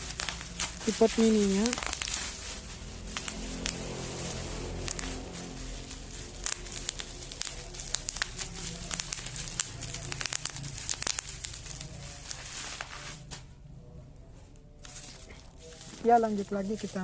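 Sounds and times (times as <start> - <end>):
packaging crinkling and rustling: 0.0 - 13.5, 14.8 - 17.0.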